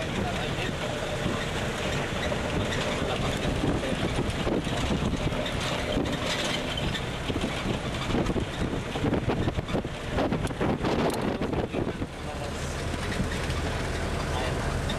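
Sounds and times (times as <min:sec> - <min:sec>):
tram rumbling: 0:00.0 - 0:14.9
wind buffeting microphone: 0:00.0 - 0:14.9.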